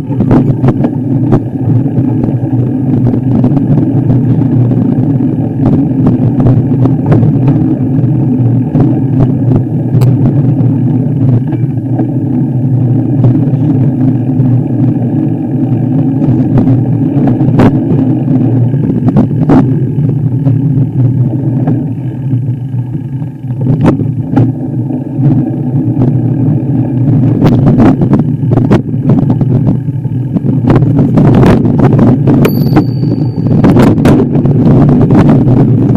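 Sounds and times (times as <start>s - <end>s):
vehicle engine running: 0.0s - 35.9s.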